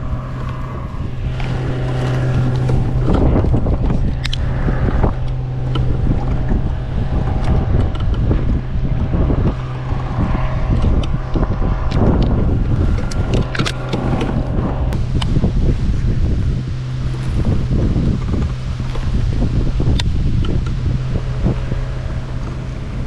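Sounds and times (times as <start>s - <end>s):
steady low hum: 0.0s - 23.0s
wind buffeting microphone: 0.0s - 23.0s.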